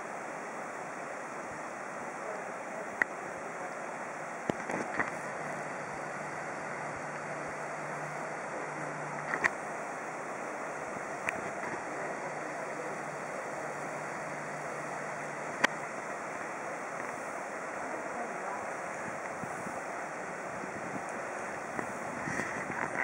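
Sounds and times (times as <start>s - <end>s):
river rapids rushing over rocks: 0.0s - 23.0s.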